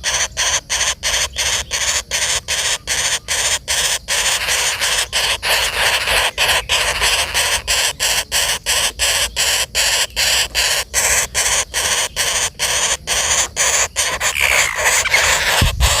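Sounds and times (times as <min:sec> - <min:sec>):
woodpeckers rasping calls: 0:00.0 - 0:16.0.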